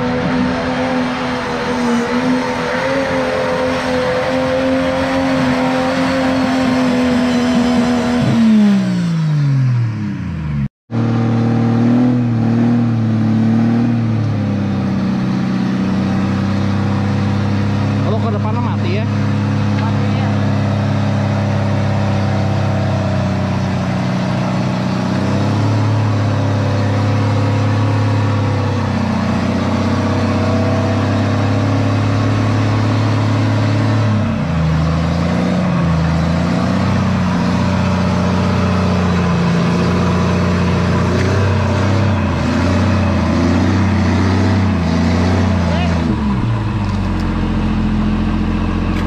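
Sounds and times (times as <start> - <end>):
engine running with changing revs: 0.0 - 49.0.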